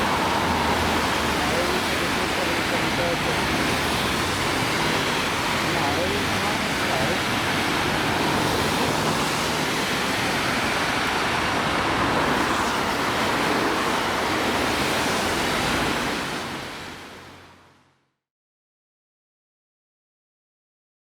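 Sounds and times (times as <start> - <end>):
torrential rain hissing: 0.0 - 17.6.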